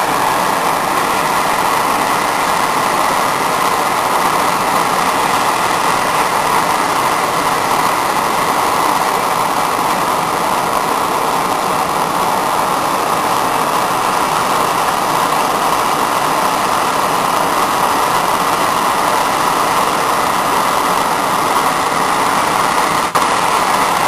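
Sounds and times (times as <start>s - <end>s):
hand torch flame hissing: 0.0s - 24.0s.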